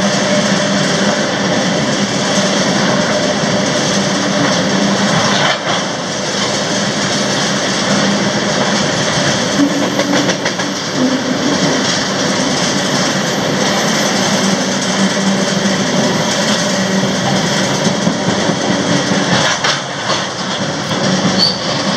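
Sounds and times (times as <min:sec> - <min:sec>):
train wheel clicks: 0:00.0 - 0:21.9
train wheels rumbling on rails: 0:00.0 - 0:21.9.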